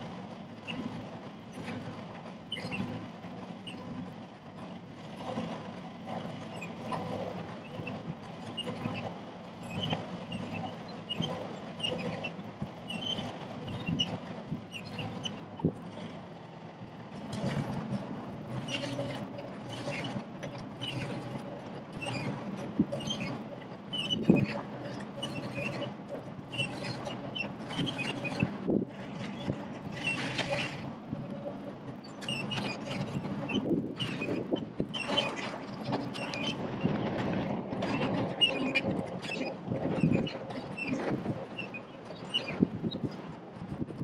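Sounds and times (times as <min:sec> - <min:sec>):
excavator diesel engine running: 0:00.0 - 0:44.0
excavator arm creaking and squeaking: 0:00.6 - 0:01.9, 0:02.5 - 0:16.2, 0:17.1 - 0:44.0.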